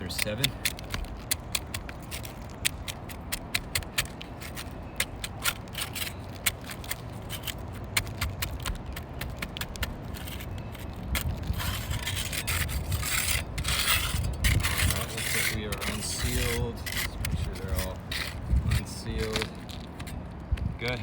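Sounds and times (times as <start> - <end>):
putty knife scraping shingles: 0.0 - 20.2.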